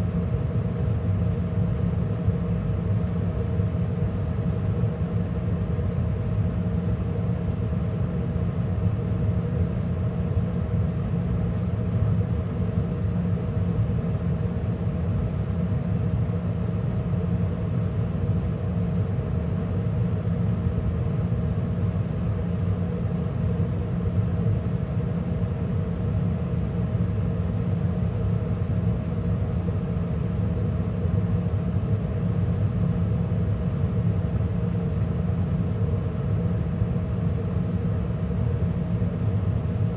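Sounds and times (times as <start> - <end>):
gas furnace running: 0.0 - 39.9.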